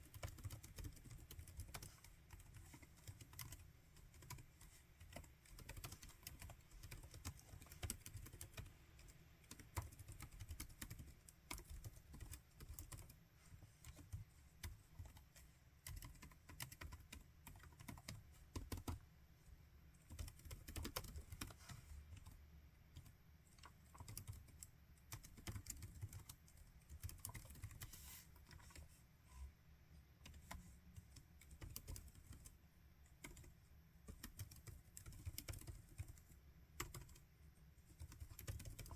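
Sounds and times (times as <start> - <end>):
laptop keyboard typing: 0.0 - 19.1, 20.0 - 28.9, 30.2 - 38.9.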